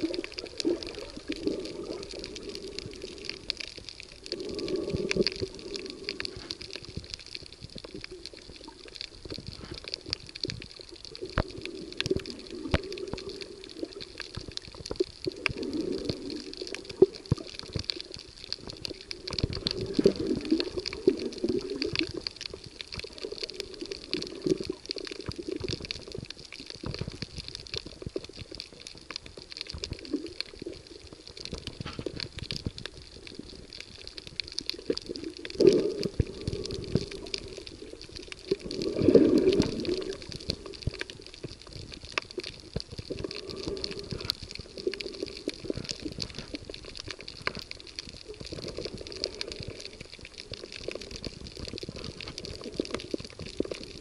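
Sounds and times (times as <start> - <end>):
crackle of fine underwater clicks: 0.0 - 54.0.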